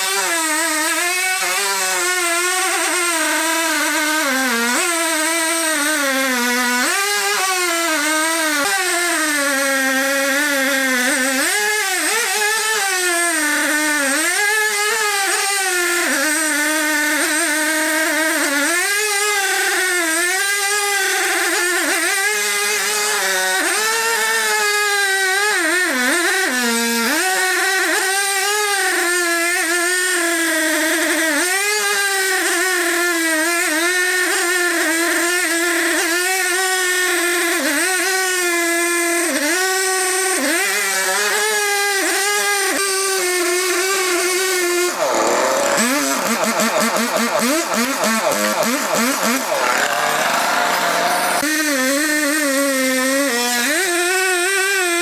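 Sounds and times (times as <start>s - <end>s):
sawmill motor running: 0.0s - 55.0s.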